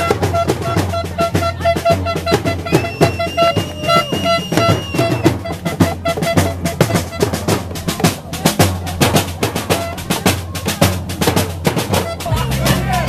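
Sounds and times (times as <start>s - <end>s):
hand drum beating: 0.0s - 13.0s
marching snare drums: 0.0s - 13.0s.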